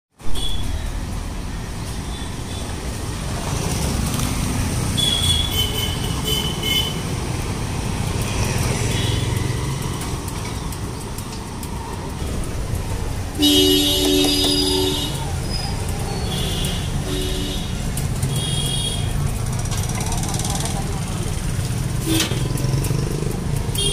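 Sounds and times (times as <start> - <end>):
cars and motorbikes passing: 0.4 - 23.9.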